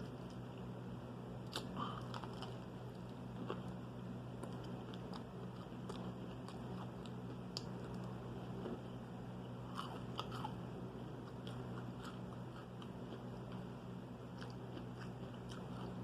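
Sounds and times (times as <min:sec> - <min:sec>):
faint low hum: 0:00.0 - 0:16.0
chewing crispy food: 0:01.4 - 0:16.0.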